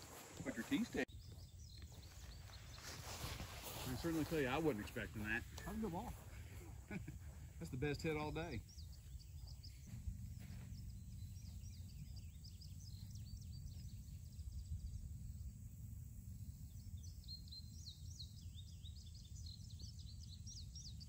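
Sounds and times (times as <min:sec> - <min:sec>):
steady low rumble: 0:00.0 - 0:20.9
small birds chirping: 0:00.0 - 0:21.0.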